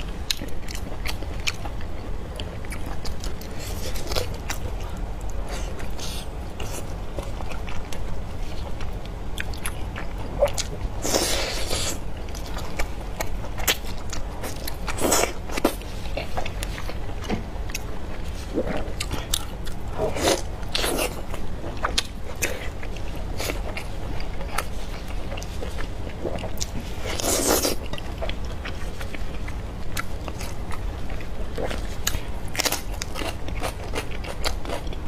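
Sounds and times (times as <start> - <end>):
person chewing food: 0.0 - 35.0.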